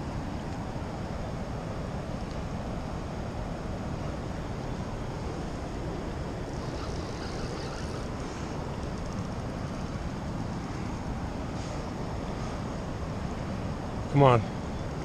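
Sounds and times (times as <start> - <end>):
fast-flowing river water: 0.0 - 15.0
wind buffeting microphone: 0.0 - 15.0.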